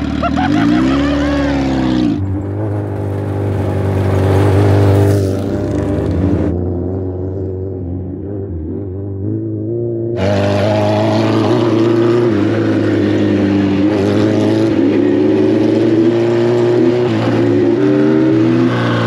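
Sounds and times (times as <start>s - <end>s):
motorcycle engines revving: 0.0s - 19.0s
motorcycles passing by: 0.0s - 19.0s.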